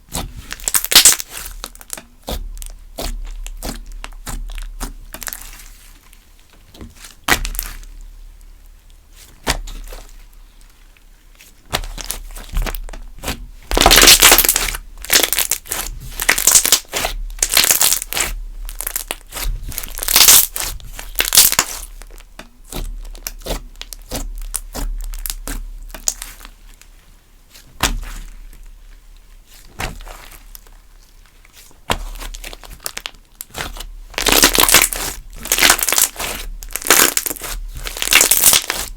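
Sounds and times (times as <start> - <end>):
slime squished by hand: 0.1 - 38.9.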